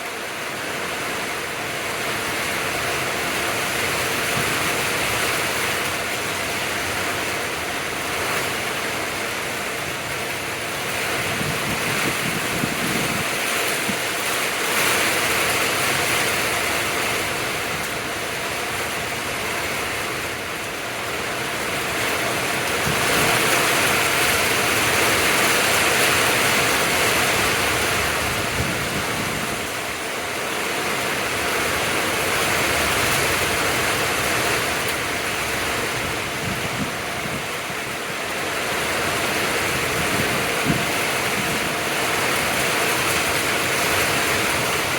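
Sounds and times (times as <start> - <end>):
gusting wind: 0.0 - 44.9
heavy rain pouring: 0.0 - 44.9.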